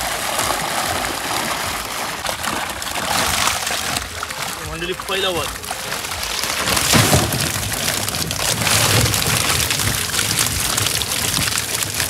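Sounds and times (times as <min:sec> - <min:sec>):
fish flapping and slapping: 0:00.0 - 0:12.0
loud splash: 0:00.0 - 0:12.0
water pouring off a net: 0:00.0 - 0:12.0.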